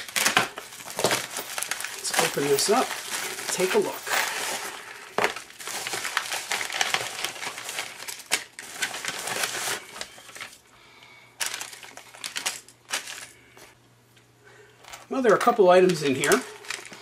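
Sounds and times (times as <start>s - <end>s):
plastic packaging crinkling: 0.0s - 10.6s, 11.4s - 13.8s, 14.9s - 17.0s.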